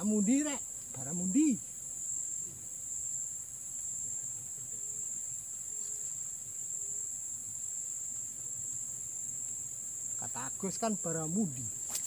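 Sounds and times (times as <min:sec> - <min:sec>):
insects shrill chorus: 0:00.0 - 0:12.0.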